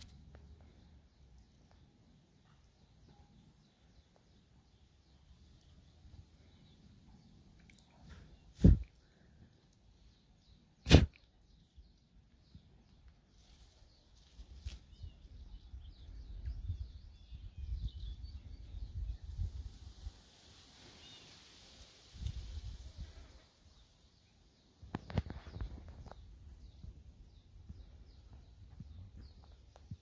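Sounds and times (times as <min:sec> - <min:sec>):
faint birdsong chirps: 0:00.0 - 0:30.0.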